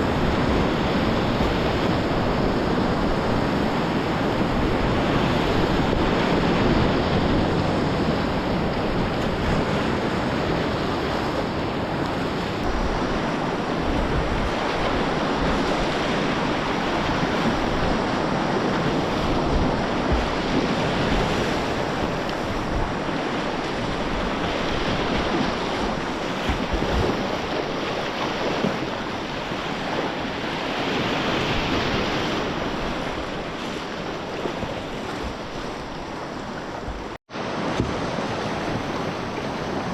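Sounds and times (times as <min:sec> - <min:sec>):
whitewater roaring: 0:00.0 - 0:39.9
wind buffeting microphone: 0:00.0 - 0:39.9.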